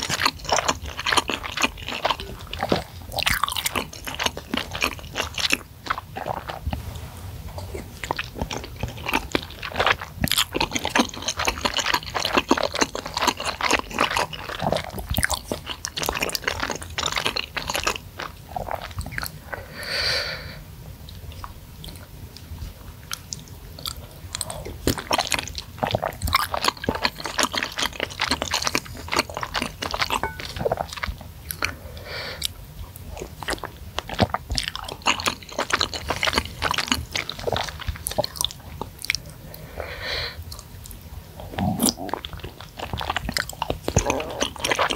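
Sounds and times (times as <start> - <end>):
chewing with wet mouth smacks: 0.0 - 6.8, 7.5 - 19.4, 21.1 - 31.8, 32.4 - 39.6, 40.4 - 44.9.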